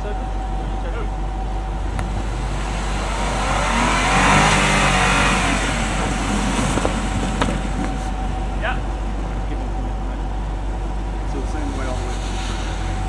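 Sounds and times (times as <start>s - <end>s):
suv engine revving under load: 1.4s - 13.0s.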